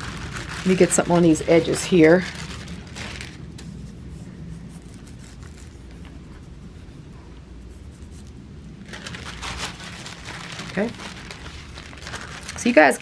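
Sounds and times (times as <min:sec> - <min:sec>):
paper rustling: 0:00.0 - 0:06.4, 0:08.2 - 0:13.0
paper rubbing: 0:00.0 - 0:13.0.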